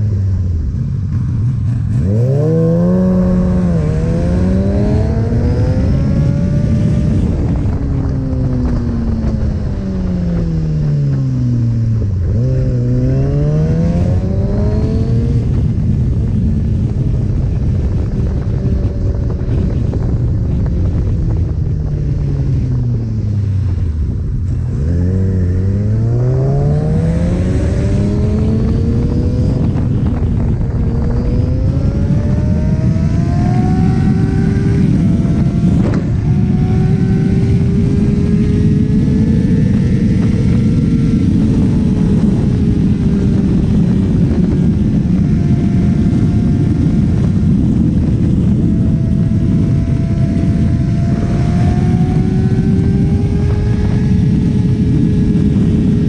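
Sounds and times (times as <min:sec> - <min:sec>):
motorcycle engine: 0:00.0 - 0:56.0
wind rush: 0:00.0 - 0:56.0.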